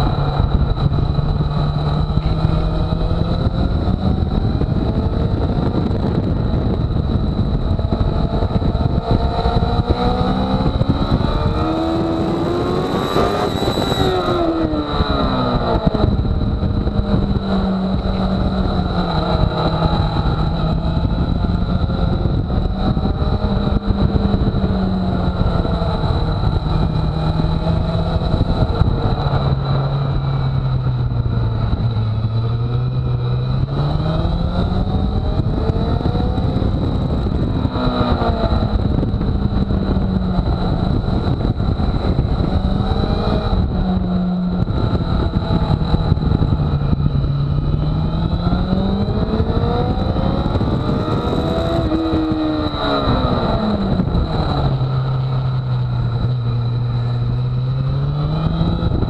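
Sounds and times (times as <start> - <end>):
motorcycle engine revving: 0.0 - 59.0
steady high whine: 0.0 - 59.0
wind rush on microphone: 0.0 - 59.0.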